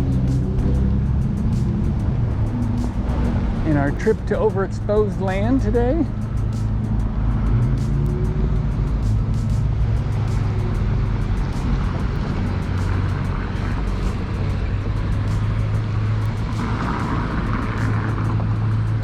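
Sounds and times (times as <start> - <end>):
background music: 0.0 - 19.0
vehicle engine humming: 0.0 - 19.0.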